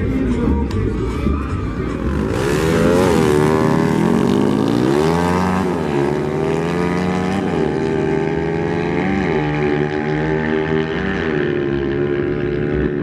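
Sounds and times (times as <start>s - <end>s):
dirt bike engine revving: 1.9s - 13.0s.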